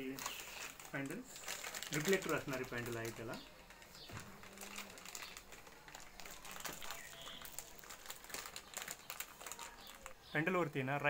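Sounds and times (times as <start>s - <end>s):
paper packing crinkling: 0.0s - 10.6s.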